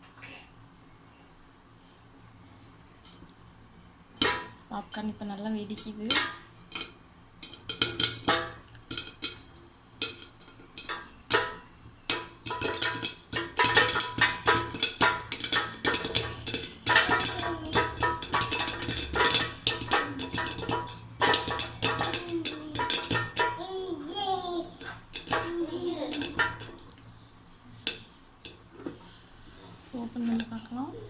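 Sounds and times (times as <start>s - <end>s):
popcorn popping in covered pan: 3.0s - 31.0s.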